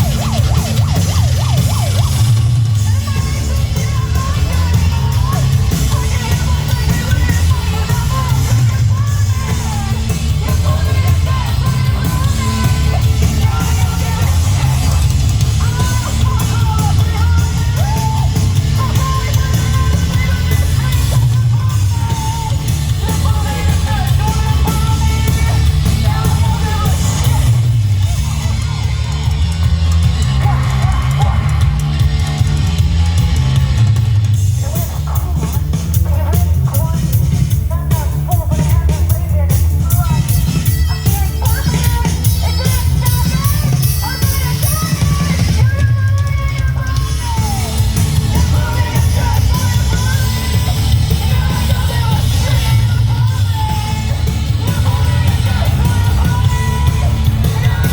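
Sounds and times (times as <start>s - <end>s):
live rock band playing: 0.0s - 57.9s
yelled lead vocal: 0.0s - 57.9s.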